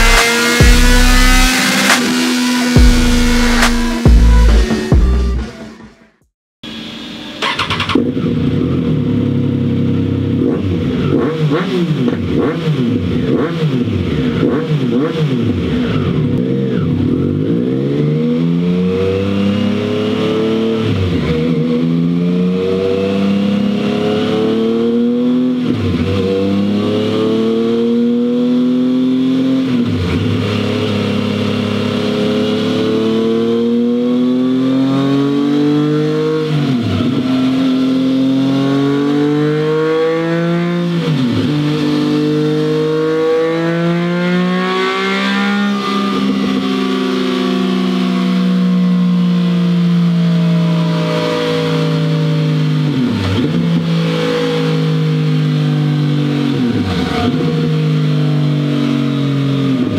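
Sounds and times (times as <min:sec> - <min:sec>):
motorcycle engine revving on a dyno: 0:00.0 - 0:05.3, 0:06.7 - 0:59.9.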